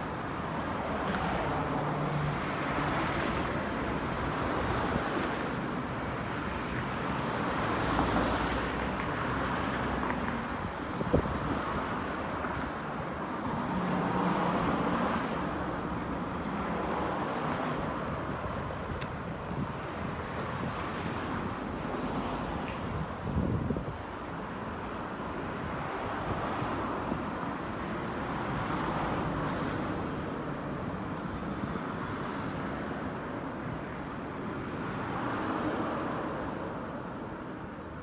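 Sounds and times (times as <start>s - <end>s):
cars passing: 0.0s - 38.0s.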